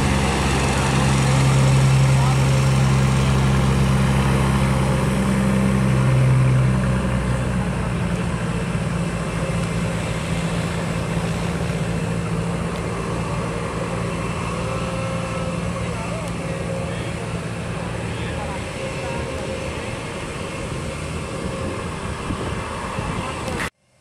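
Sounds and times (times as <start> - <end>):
propeller airliner taking off: 0.0 - 24.0.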